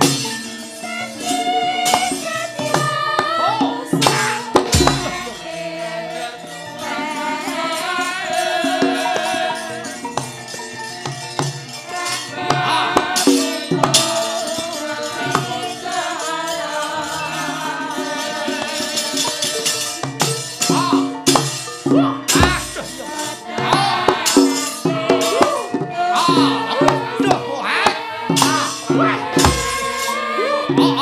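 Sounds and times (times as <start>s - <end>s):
gamelan music: 0.0s - 31.0s.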